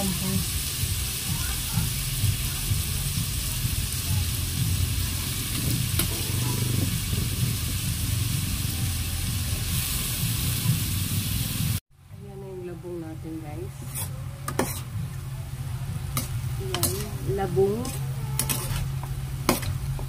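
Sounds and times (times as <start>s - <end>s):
food sizzling in pot: 0.0s - 11.8s, 13.7s - 15.1s, 16.1s - 20.0s.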